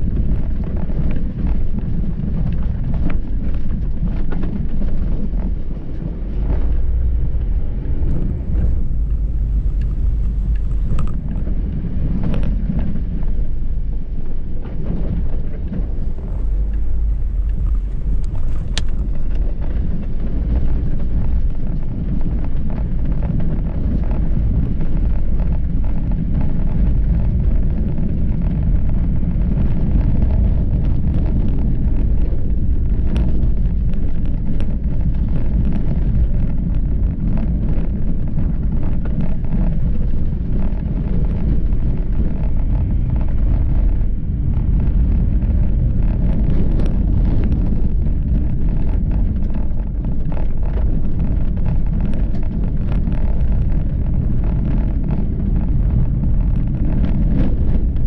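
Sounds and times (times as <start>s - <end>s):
car tyres and engine rumbling: 0.0s - 58.0s.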